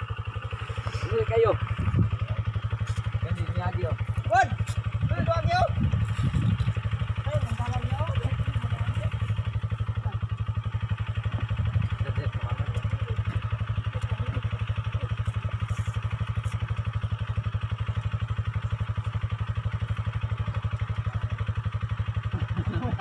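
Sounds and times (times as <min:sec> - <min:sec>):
dirt bike engine idling: 0:00.0 - 0:23.0.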